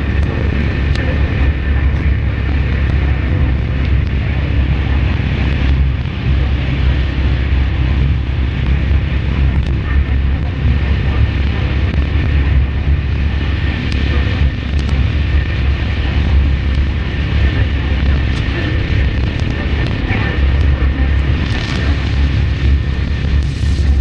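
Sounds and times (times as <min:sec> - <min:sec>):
low rumble: 0:00.0 - 0:24.0
steady rain: 0:00.0 - 0:24.0.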